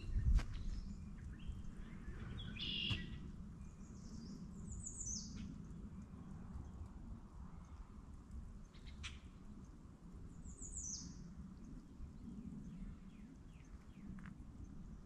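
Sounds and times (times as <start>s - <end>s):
songbirds calling: 0.0s - 5.8s, 8.6s - 14.8s
low steady background rumble: 0.0s - 15.0s.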